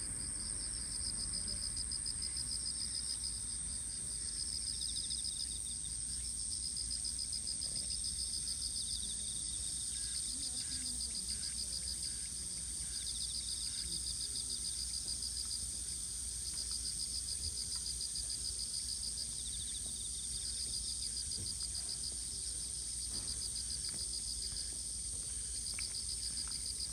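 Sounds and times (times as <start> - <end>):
insect high-pitched buzz: 0.0 - 26.9.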